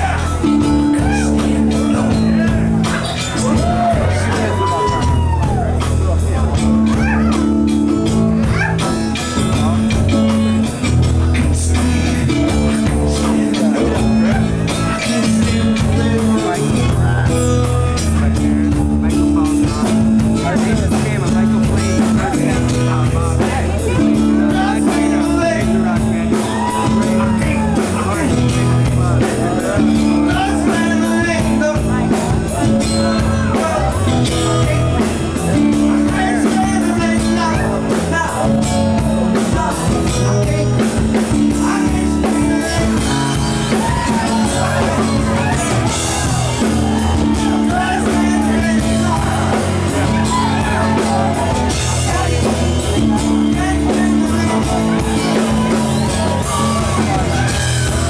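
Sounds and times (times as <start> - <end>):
acoustic guitar: 0.0 - 58.0
man singing: 0.0 - 58.0
rock band playing: 0.0 - 58.0.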